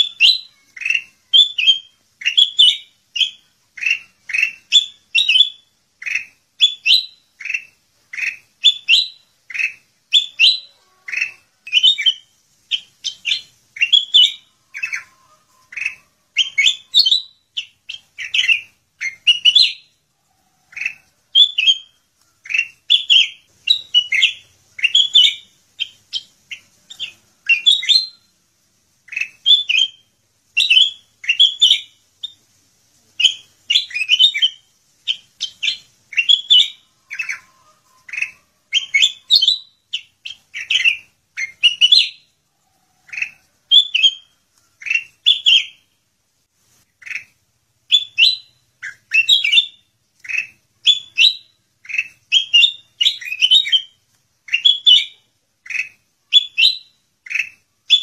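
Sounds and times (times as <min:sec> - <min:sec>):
bird chirping: 0:00.0 - 0:46.0, 0:46.7 - 0:58.0.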